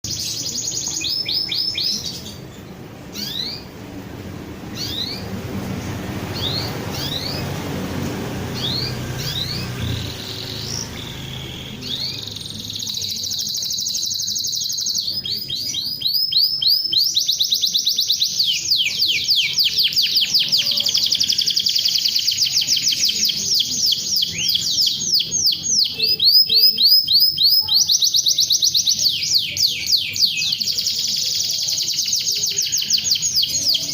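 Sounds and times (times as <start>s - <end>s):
canary singing: 0.0s - 33.9s
low background noise: 0.0s - 33.9s.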